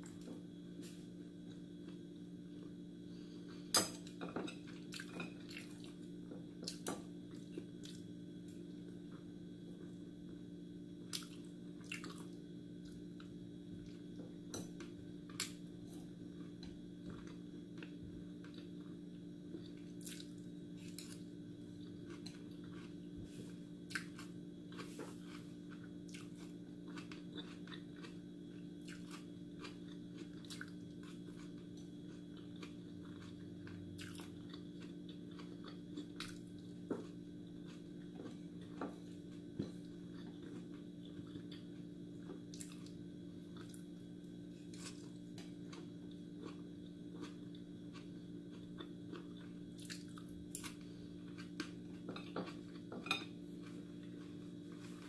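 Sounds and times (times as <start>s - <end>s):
steady low hum: 0.0s - 55.0s
person chewing: 2.6s - 8.1s, 14.7s - 55.0s.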